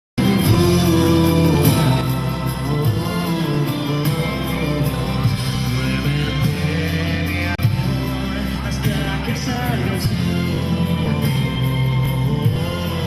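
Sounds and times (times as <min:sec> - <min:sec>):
loud music with guitar and beat: 0:00.2 - 0:13.0.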